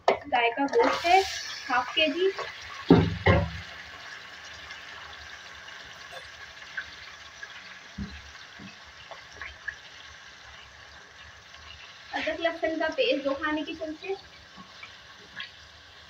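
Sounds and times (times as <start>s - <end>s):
meat sizzling in oil: 0.7s - 16.0s.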